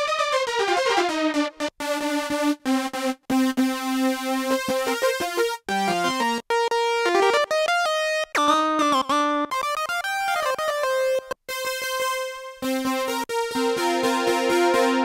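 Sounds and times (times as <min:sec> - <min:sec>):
synthesizer melody: 0:00.0 - 0:15.0.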